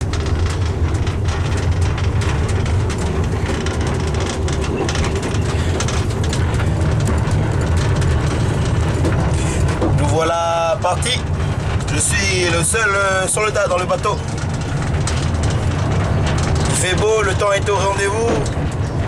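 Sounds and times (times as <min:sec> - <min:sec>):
boat trailer rattling and knocking: 0:00.0 - 0:19.0
road and engine rumble: 0:00.0 - 0:19.0.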